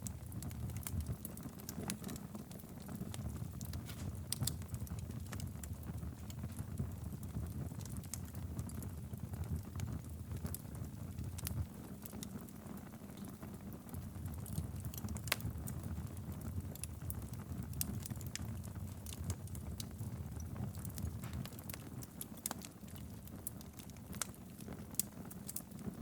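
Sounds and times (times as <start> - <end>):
fire crackles and pops: 0.0 - 26.0
fire flames rumbling: 0.0 - 26.0.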